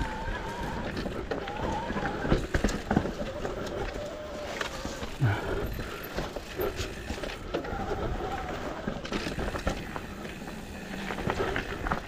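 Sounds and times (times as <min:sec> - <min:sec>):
mountain bike tyres rattling on dirt: 0:00.0 - 0:12.0.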